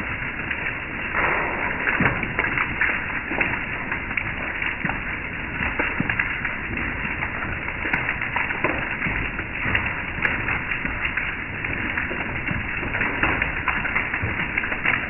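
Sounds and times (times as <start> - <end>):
hail and rain on wooden deck: 0.0 - 15.0.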